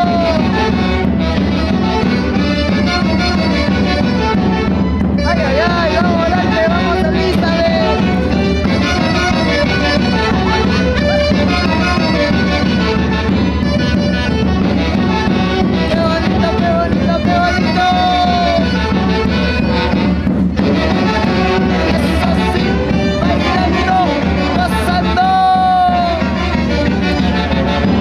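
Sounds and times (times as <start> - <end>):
latin dance band music: 0.0 - 28.0.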